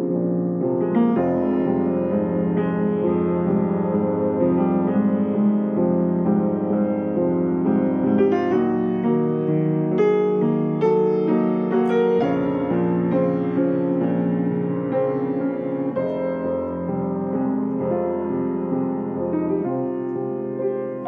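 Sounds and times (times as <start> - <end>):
piano playing chords: 0.0 - 21.0.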